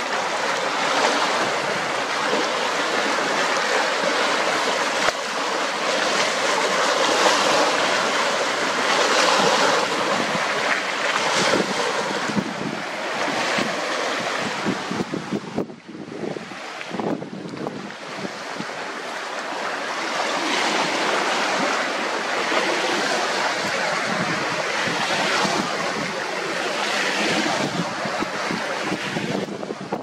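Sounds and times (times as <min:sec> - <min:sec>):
waves breaking against rocks: 0:00.0 - 0:30.0
wind buffeting microphone: 0:00.0 - 0:30.0.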